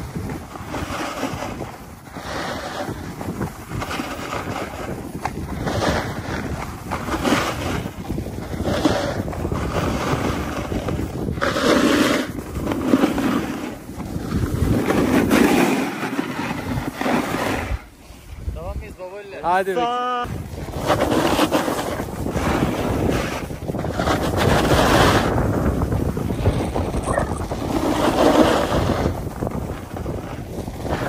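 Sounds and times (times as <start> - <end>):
skis carving on snow: 0.0 - 31.0
wind rushing over microphone: 0.0 - 31.0.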